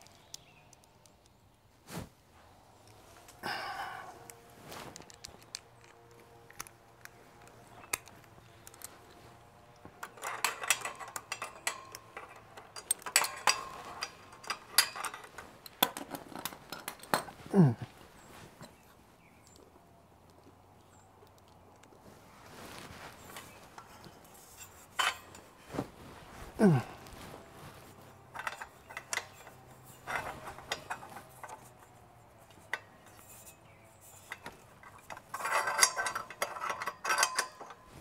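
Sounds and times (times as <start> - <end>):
metal tools and bolts clinking: 2.8 - 18.8, 22.6 - 38.0.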